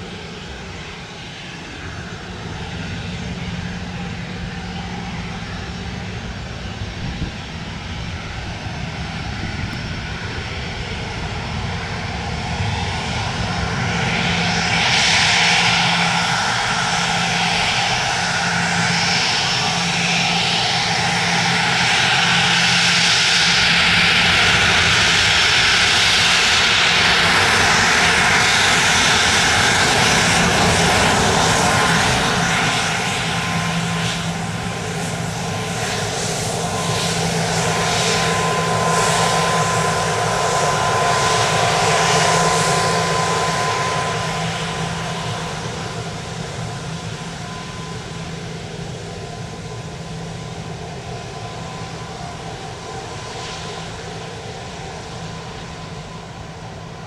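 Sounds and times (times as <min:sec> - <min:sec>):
jet taxiing: 0:00.0 - 0:57.0.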